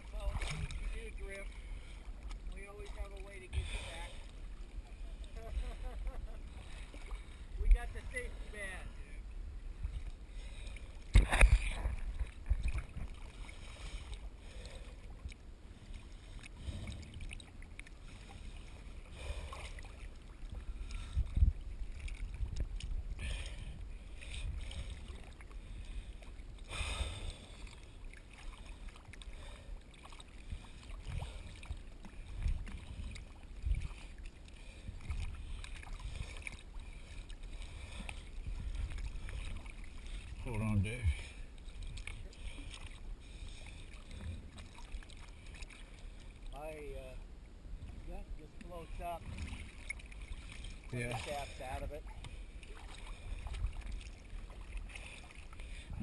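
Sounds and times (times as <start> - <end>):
water sloshing: 0.0 - 47.2, 47.8 - 56.0.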